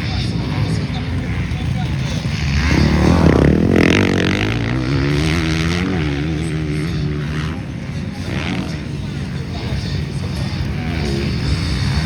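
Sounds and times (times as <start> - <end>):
motocross motorcycle engines racing: 0.0 - 12.0.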